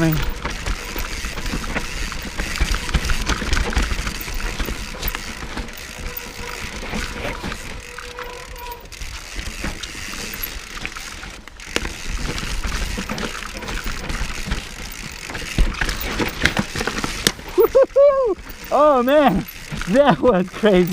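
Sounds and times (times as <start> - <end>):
bike rattling and clicking: 0.0 - 20.9
bike tyres rolling over dirt: 0.0 - 20.9.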